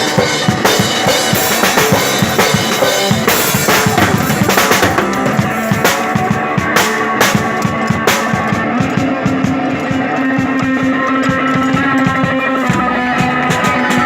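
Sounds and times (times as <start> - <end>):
drum kit playing: 0.0 - 14.0
sustained electric guitar: 0.0 - 14.0.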